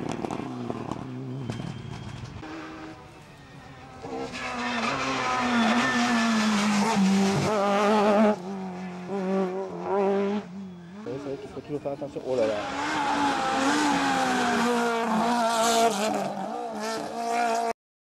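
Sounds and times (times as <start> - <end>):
rally car engine passing: 0.0 - 17.7.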